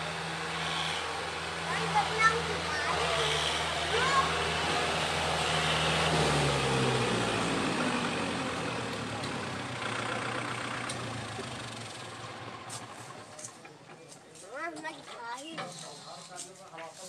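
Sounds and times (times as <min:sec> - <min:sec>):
tractor diesel engine running: 0:00.0 - 0:14.2.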